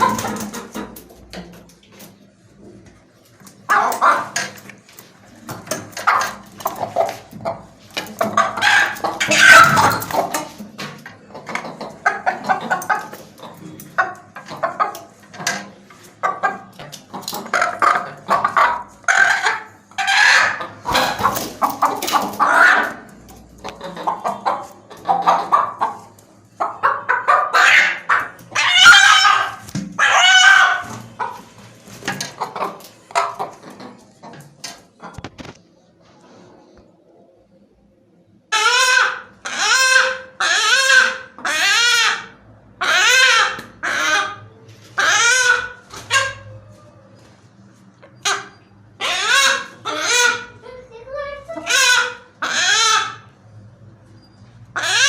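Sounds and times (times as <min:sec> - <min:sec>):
hen clucking: 0:00.0 - 0:01.6, 0:03.5 - 0:35.5, 0:38.5 - 0:47.1, 0:48.0 - 0:53.4, 0:54.7 - 0:55.0.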